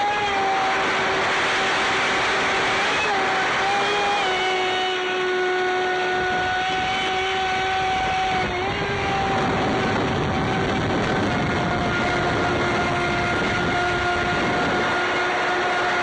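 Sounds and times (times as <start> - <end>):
electric motor whining: 0.0 - 16.0
water rushing along hull: 0.0 - 16.0.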